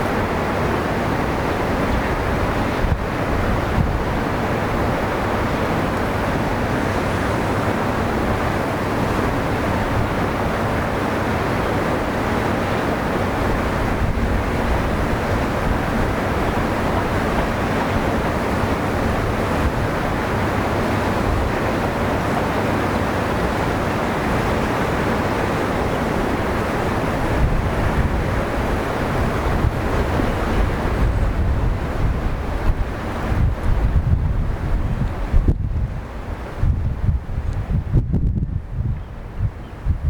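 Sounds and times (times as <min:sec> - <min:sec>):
sea surf on shore: 0:00.0 - 0:40.0
wind rumbling on microphone: 0:00.0 - 0:40.0.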